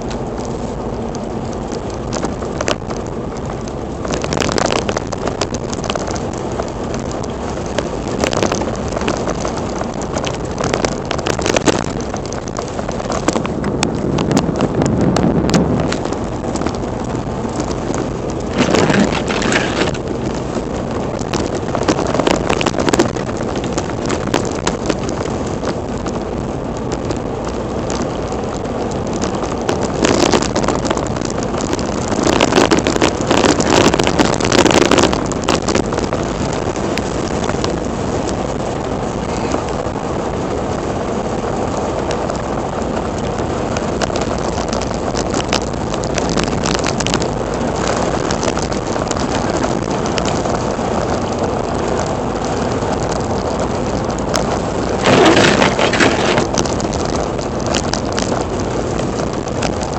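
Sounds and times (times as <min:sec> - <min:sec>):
wind blowing over microphone: 0:00.0 - 0:59.9.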